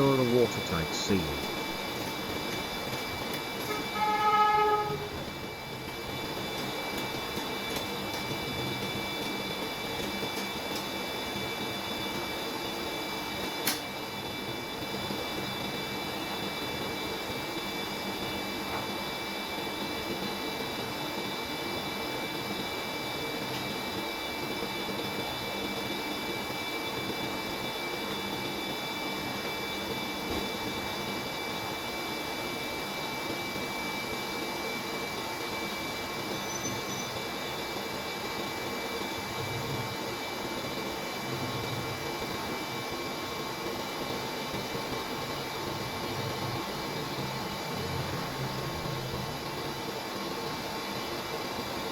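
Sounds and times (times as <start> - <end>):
mechanical whir with whining tones: 0.0 - 51.9.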